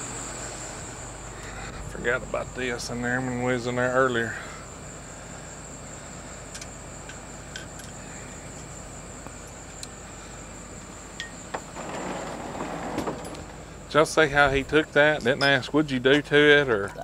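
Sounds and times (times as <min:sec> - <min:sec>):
background hum: 0:00.0 - 0:17.0
thin high whine: 0:00.0 - 0:17.0.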